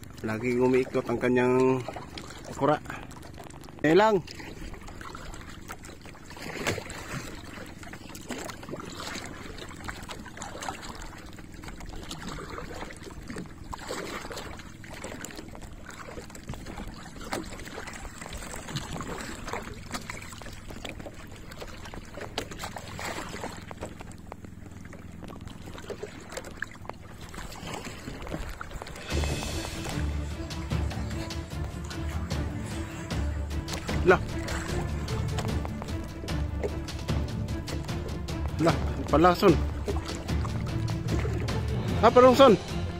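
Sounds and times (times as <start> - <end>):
small boat engine running: 0.0 - 42.9
water splashing along hull: 0.0 - 42.9.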